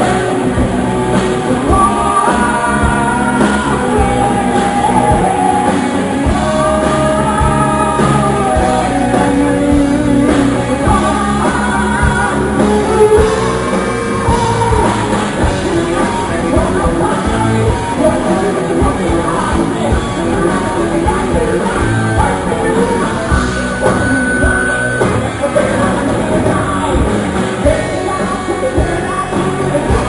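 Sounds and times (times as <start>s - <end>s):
drums: 0.0s - 30.0s
electric guitars: 0.0s - 30.0s
singer's voice: 0.0s - 30.0s.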